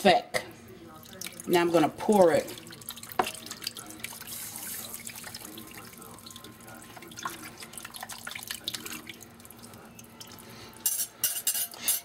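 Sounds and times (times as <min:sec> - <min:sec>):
liquid pouring and splashing: 0:00.9 - 0:10.8.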